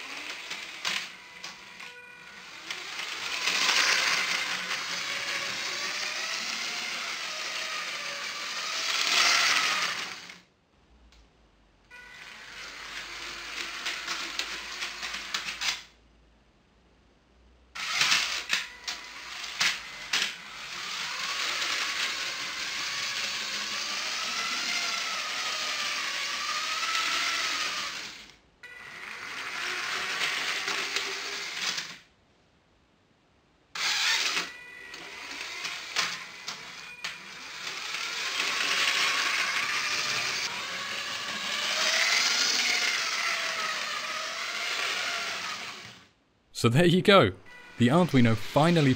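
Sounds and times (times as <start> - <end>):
toy train motor whine: 0.0 - 10.5, 11.9 - 15.9, 17.8 - 32.1, 33.7 - 46.2.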